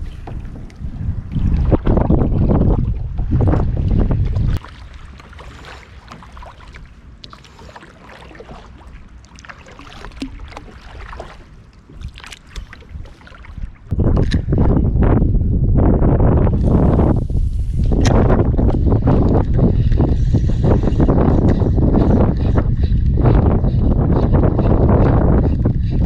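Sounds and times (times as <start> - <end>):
wind buffeting microphone: 0.0 - 7.1, 10.0 - 26.0
water splashing around kayak: 0.0 - 15.2, 16.2 - 26.0.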